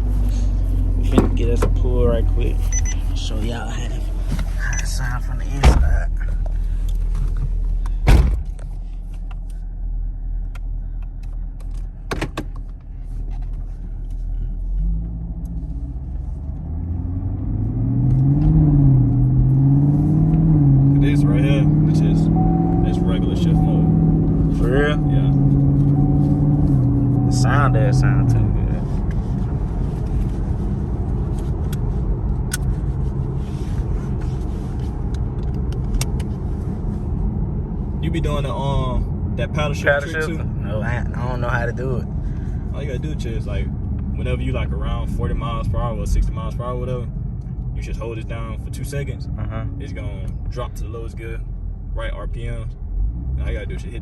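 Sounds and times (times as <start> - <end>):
car engine rumble: 0.0 - 54.0.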